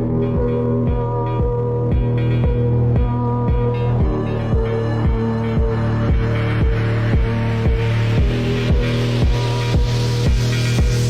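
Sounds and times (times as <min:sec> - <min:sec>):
deep kick drum thumps: 0:00.0 - 0:11.0.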